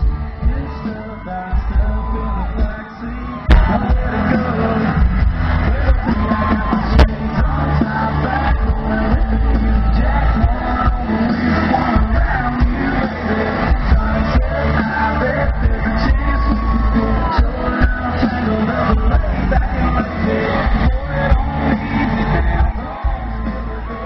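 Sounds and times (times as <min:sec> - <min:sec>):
live country band: 0:00.0 - 0:24.0
man singing into microphone: 0:00.0 - 0:24.0.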